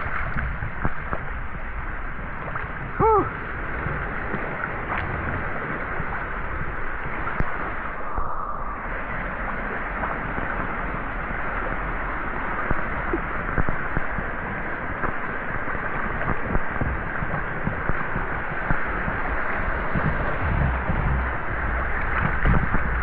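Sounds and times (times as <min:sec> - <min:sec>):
water rushing and splashing: 0:00.0 - 0:23.0.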